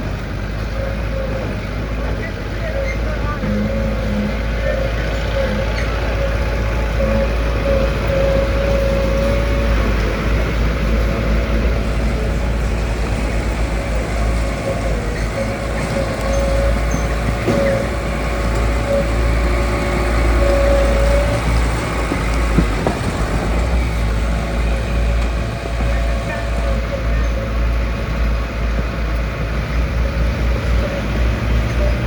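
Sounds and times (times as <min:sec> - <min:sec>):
diesel machinery engine rumble: 0:00.0 - 0:32.0
thin steady whine: 0:02.0 - 0:31.0.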